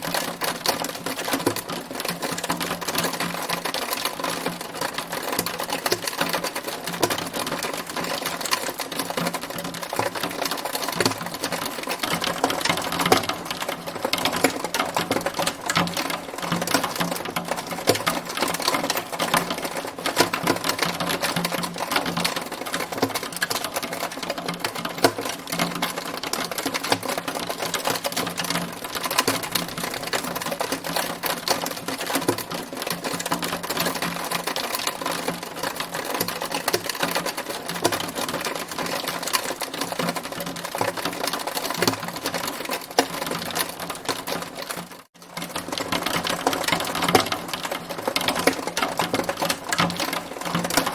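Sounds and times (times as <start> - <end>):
hailstones hitting a hard surface: 0.0 - 50.9.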